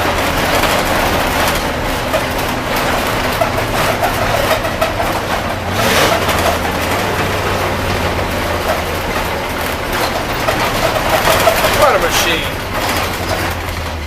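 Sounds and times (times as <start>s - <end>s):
bus engine running: 0.0s - 14.0s.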